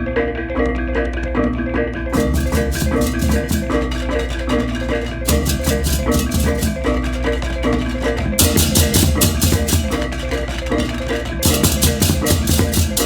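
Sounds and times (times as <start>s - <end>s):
drums: 0.4s - 13.0s
cymbals crashing: 2.1s - 13.0s
low gongs: 2.2s - 13.0s.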